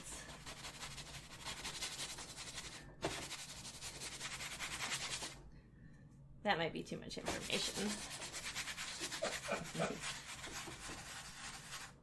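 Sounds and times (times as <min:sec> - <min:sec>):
paintbrush scrubbing canvas: 0:00.0 - 0:05.4, 0:07.3 - 0:12.0.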